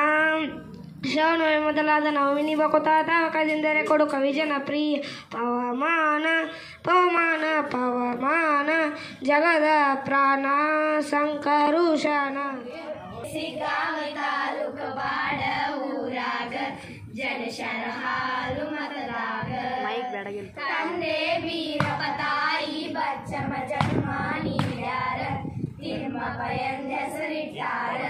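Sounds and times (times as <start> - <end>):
girls singing over loudspeaker: 5.3 - 28.0.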